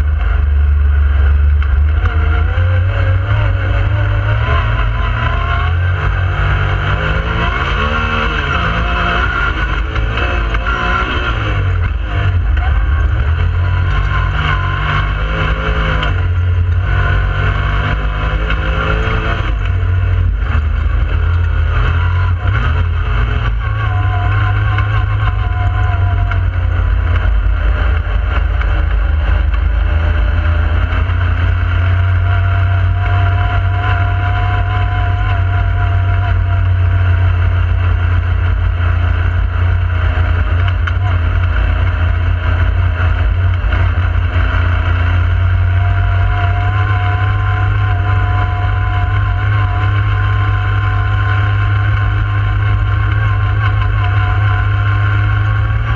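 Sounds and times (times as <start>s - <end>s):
engine droning at steady cruise: 0.0s - 55.9s.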